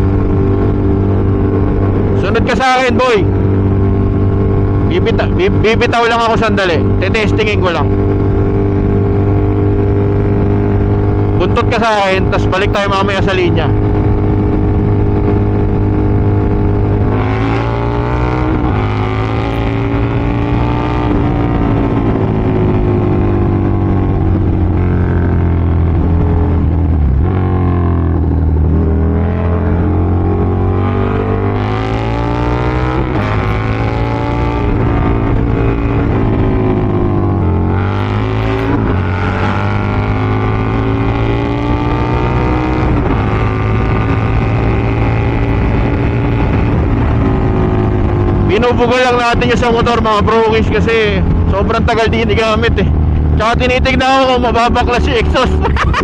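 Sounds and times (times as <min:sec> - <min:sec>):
motorcycle engine accelerating hard: 0:00.0 - 0:56.0.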